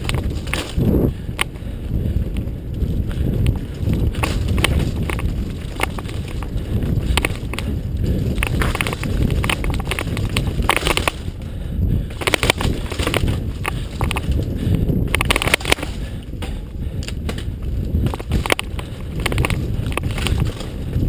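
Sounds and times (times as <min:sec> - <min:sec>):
bike clicks and rattles: 0:00.0 - 0:21.0
bike tyres rumbling on dirt: 0:00.0 - 0:21.0
wind on microphone: 0:00.0 - 0:21.0.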